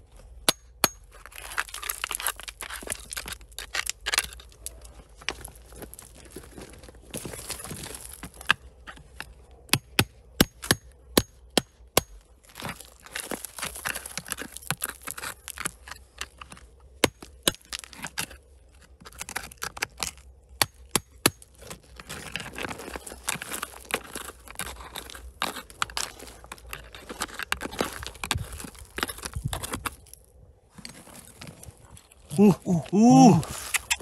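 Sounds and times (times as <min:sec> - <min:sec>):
soil and stones scraping: 0:00.0 - 0:11.1, 0:12.1 - 0:34.0.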